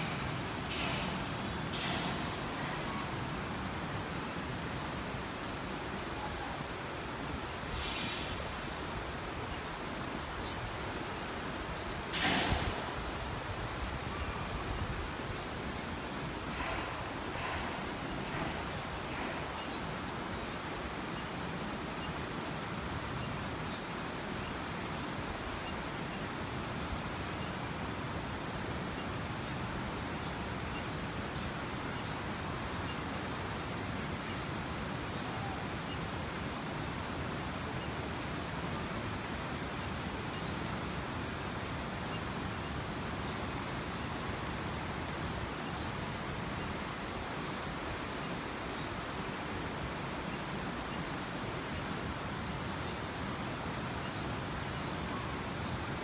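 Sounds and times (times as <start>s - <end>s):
river water over stones: 0.0s - 56.0s.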